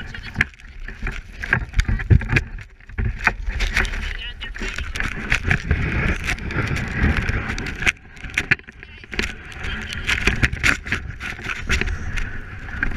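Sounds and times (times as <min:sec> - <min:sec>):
plastic sled scraping over snow: 0:00.0 - 0:12.9
sled knocks and rattles: 0:00.0 - 0:12.9.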